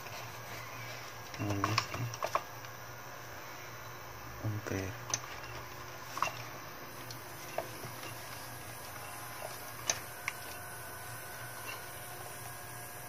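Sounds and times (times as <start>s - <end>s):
inverter humming: 0.0s - 13.0s.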